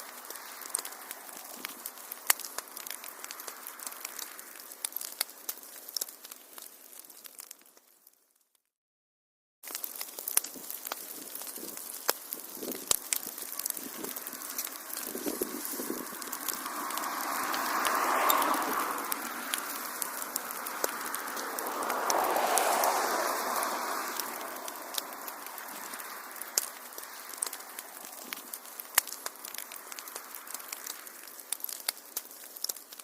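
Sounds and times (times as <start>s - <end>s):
fire hissing: 0.0s - 7.7s, 9.7s - 33.0s
fire crackling and popping: 0.0s - 8.6s, 9.6s - 33.0s.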